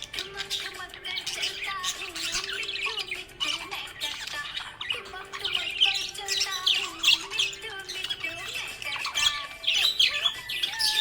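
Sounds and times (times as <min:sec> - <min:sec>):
background music: 0:00.0 - 0:11.0
budgerigar chirping and chattering: 0:00.0 - 0:11.0.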